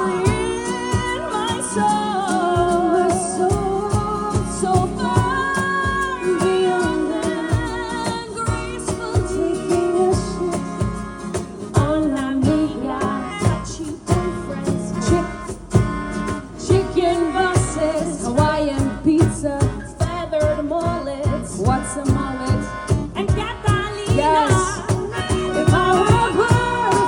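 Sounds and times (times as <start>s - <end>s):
band playing steady beat: 0.0s - 27.0s
women singing with vibrato: 0.0s - 27.0s.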